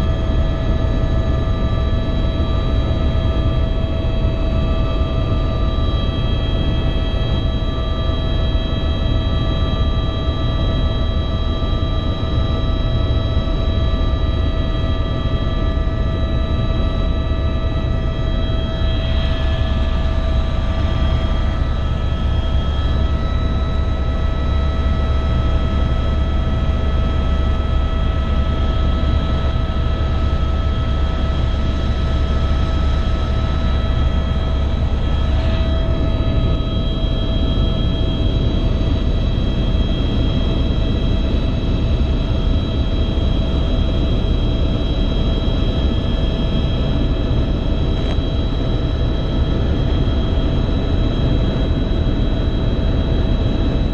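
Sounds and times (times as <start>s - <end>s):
constant whining tones: 0.0s - 53.9s
helicopter rotor and engine rumble: 0.0s - 53.9s.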